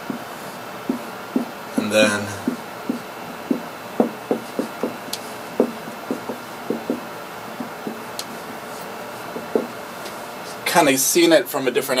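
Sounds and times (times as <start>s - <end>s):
whiteboard marker tapping and dragging: 0.0s - 10.2s.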